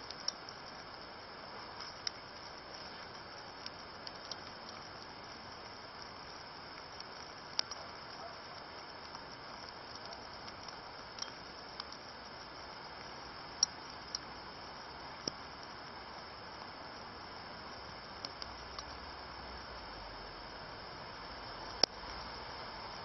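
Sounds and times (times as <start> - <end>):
sharp ticks: 0.0 - 19.2, 21.3 - 22.3
rain falling on stream and grass: 0.0 - 23.0.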